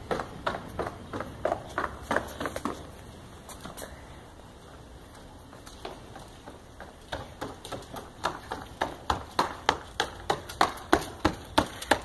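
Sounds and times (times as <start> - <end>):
child running on concrete: 0.0 - 12.0.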